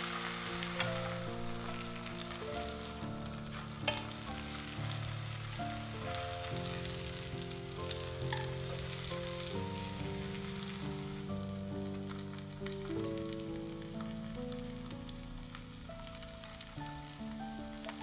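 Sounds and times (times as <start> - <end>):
background music with held notes: 0.0 - 18.0
cabbage leaves sizzling in hot oil: 0.0 - 18.0.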